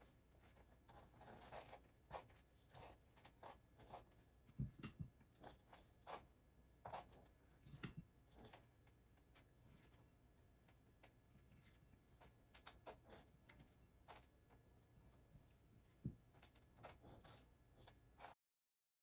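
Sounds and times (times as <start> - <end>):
spatula scraping and rustling: 0.3 - 18.4.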